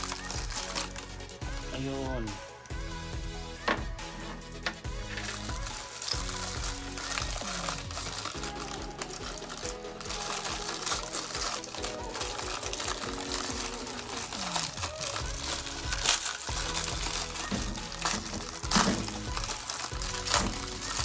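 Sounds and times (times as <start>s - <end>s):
plastic bag crinkling: 0.0s - 1.9s, 4.2s - 21.0s
background music: 0.0s - 21.0s.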